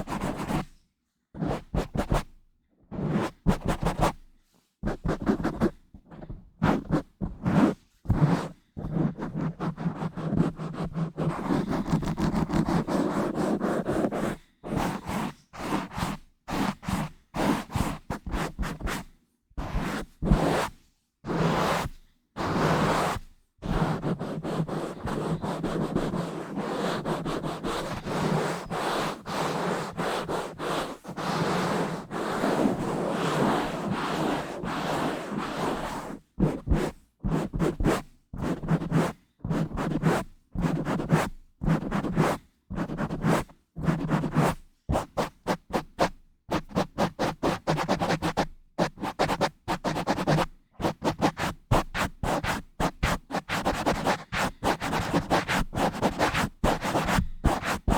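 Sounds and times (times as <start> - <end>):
scratching on microphone grille: 0.0 - 0.8, 1.4 - 4.2, 4.8 - 57.9.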